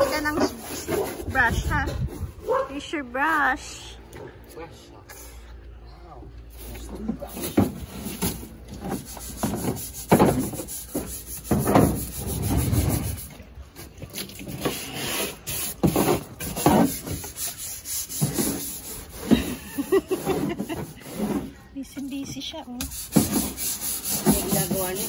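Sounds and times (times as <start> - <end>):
hand brush scrubbing a truck: 0.0 - 3.8, 6.5 - 25.0.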